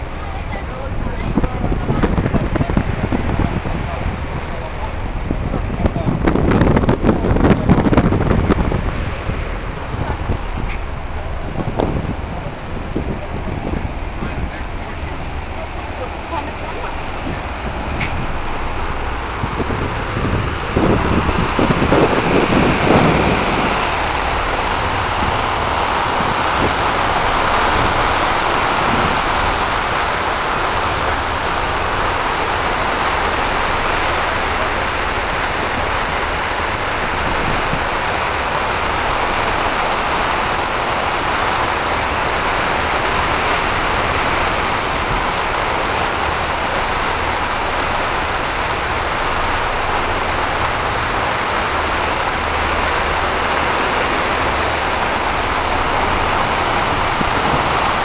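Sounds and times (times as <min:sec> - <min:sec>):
ship engines droning: 0:00.0 - 0:58.0
water rushing along hull: 0:00.0 - 0:58.0.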